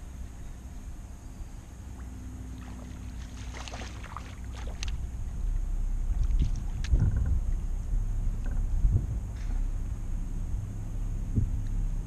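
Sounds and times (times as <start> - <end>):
faint steady hum: 0.0 - 12.0
wind and water rumble: 0.0 - 12.0.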